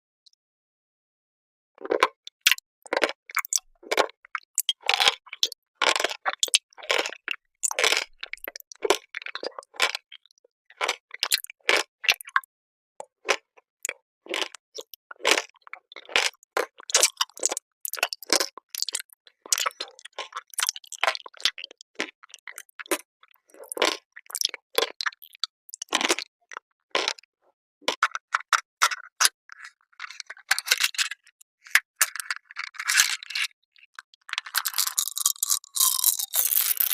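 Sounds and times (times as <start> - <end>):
food crunching and chewing: 1.8 - 27.3, 27.9 - 36.9.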